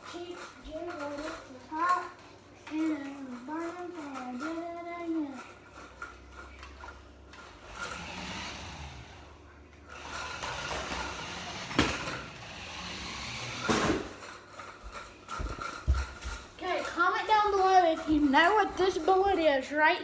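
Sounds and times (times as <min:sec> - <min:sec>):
things being moved and rummaged: 0:00.0 - 0:20.0.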